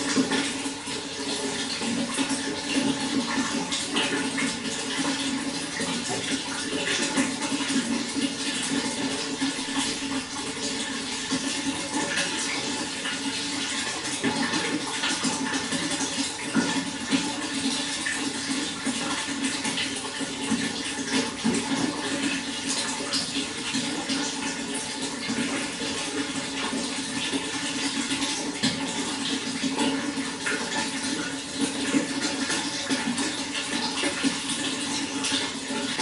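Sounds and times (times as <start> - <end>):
running water splashing: 0.0 - 36.0.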